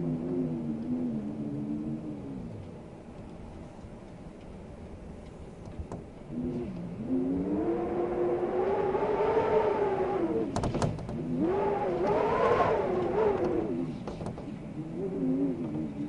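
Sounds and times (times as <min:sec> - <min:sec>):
wind howling: 0:00.0 - 0:16.0.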